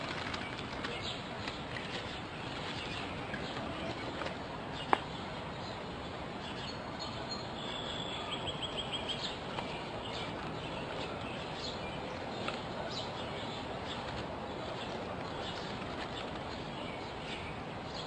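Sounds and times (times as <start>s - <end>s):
outdoor background noise: 0.0s - 18.0s
bird singing: 0.2s - 18.0s.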